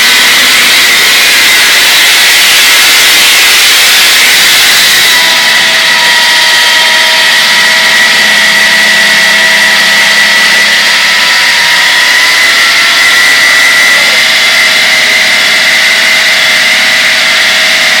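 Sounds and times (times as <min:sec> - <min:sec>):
power tool whining: 0:00.0 - 0:18.0.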